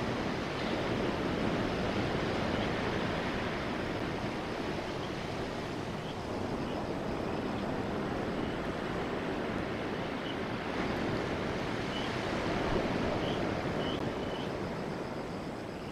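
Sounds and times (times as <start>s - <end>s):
sea surf rushing: 0.0s - 15.9s
wind: 0.0s - 15.9s.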